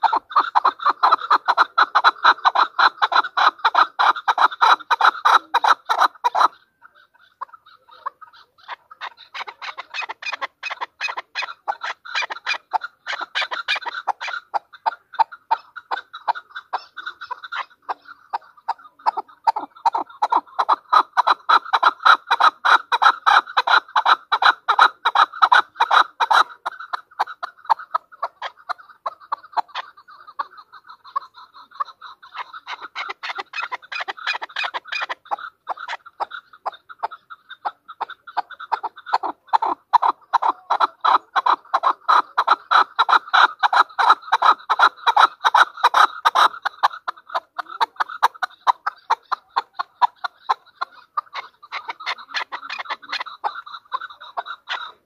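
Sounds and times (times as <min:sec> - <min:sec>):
partridge clucking calls: 0:00.0 - 0:55.0.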